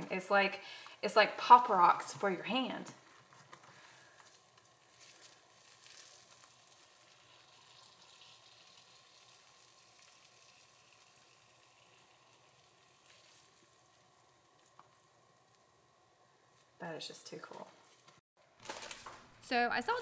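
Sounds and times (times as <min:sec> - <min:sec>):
crackling fizz of bubbles popping: 0:00.0 - 0:18.2.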